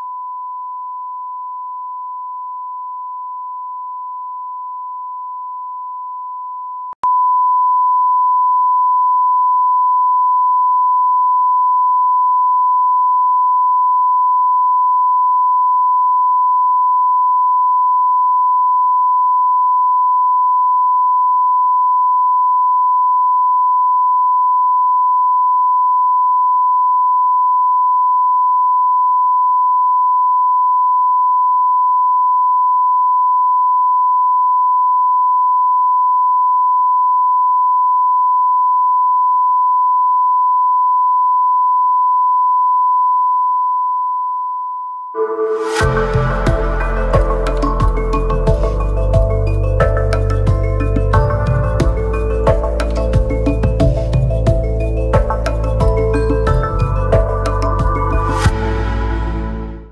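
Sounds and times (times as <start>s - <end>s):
steady test tone beep: 0.0s - 52.4s.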